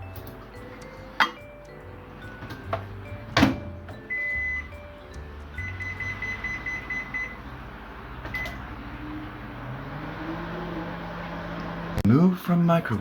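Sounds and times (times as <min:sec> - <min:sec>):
microwave oven beeping: 0:00.0 - 0:12.0.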